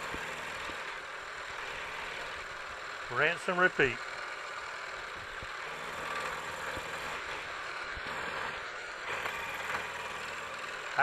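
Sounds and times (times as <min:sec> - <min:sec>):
low machine hum: 0:00.0 - 0:11.0
milling machine cutting hiss: 0:00.0 - 0:11.0.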